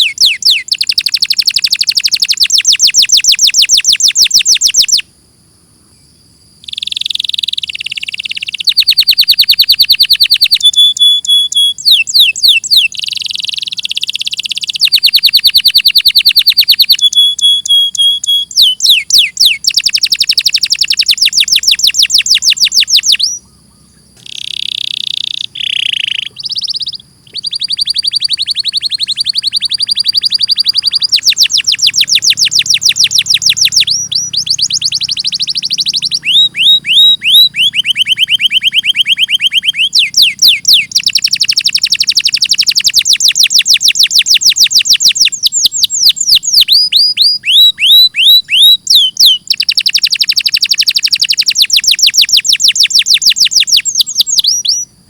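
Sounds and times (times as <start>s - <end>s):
canary singing fast trills: 0.0s - 5.2s, 5.8s - 55.0s.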